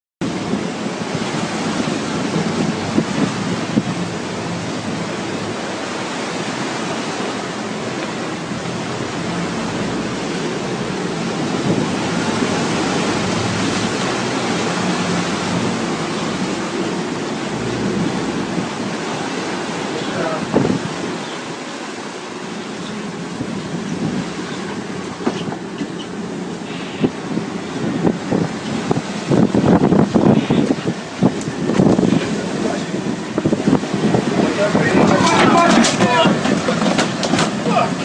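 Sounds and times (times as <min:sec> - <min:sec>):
wind and sea water rushing: 0:00.2 - 0:38.0.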